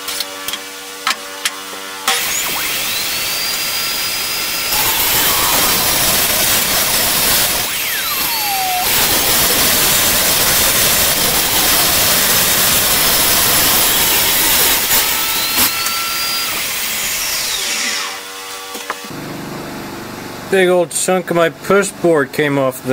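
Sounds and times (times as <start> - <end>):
table saw cutting wood: 0.0 - 19.2.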